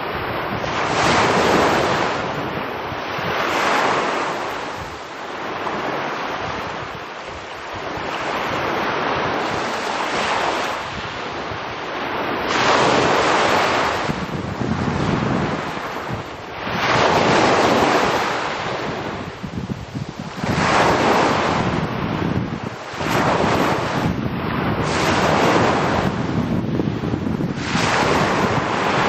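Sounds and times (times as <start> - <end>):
waves breaking on pebble beach: 0.0 - 29.0.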